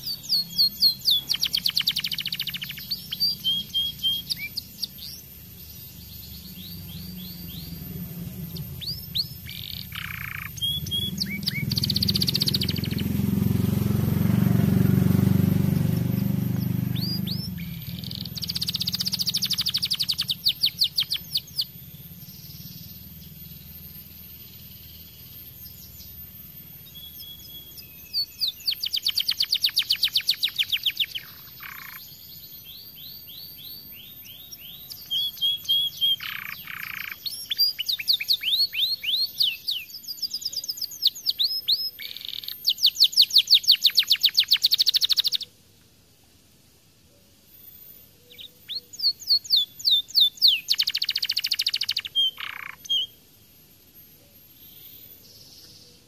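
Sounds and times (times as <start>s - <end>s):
canary trilling and chirping: 0.0s - 45.5s, 47.8s - 53.2s.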